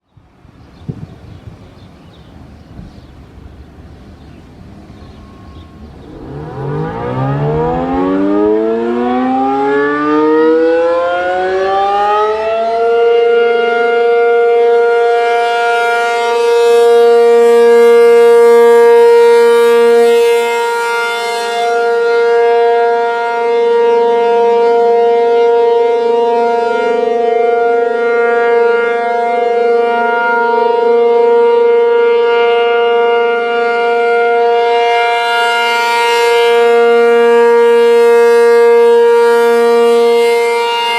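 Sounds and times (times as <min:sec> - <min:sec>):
warning siren winding up: 0:05.2 - 0:40.9.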